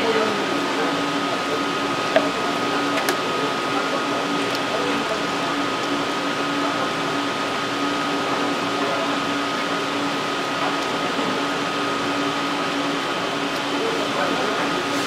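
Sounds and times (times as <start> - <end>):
machine hum with high whine: 0.0 - 15.0.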